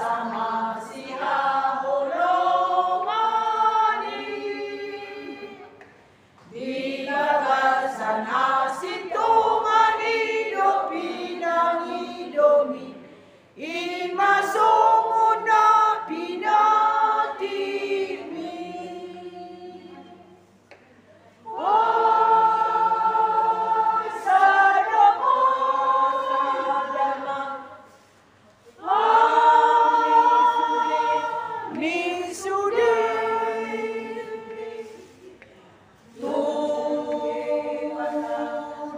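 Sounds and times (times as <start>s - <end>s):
women's choir singing a hymn: 0.0s - 20.8s, 21.4s - 38.9s.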